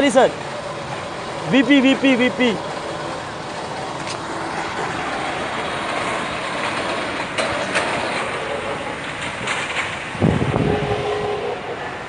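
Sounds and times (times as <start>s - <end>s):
vehicle engine and wind rushing: 0.0s - 12.0s.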